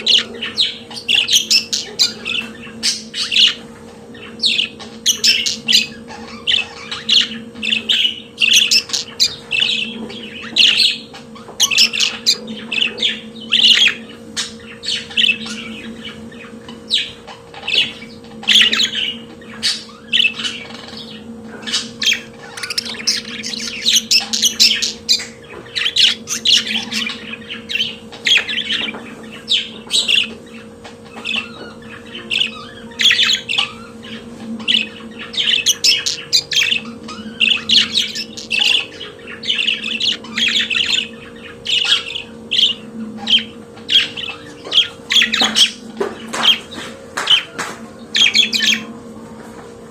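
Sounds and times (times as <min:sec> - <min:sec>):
budgerigars warbling and chattering: 0:00.0 - 0:49.9
steady low hum: 0:00.0 - 0:49.9.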